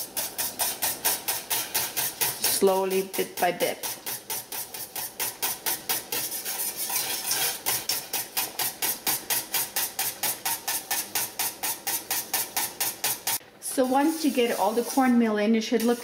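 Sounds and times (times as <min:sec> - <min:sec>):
whisk beating in steel saucepan: 0:00.0 - 0:16.0.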